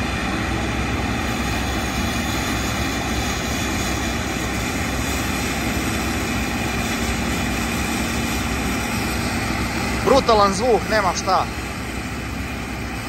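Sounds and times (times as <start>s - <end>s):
heavy diesel engine drone: 0.0s - 13.0s.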